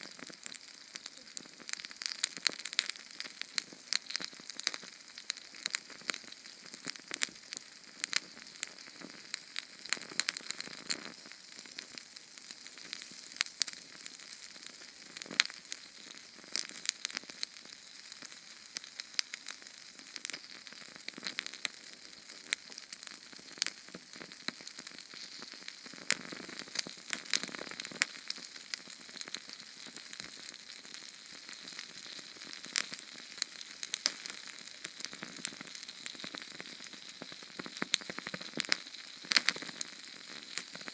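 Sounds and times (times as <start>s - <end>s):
flame crackling and popping: 0.0s - 40.9s.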